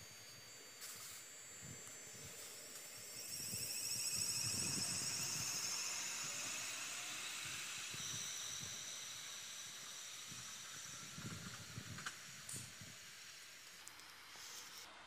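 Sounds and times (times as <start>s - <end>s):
electric train whine and hiss: 0.0s - 15.0s.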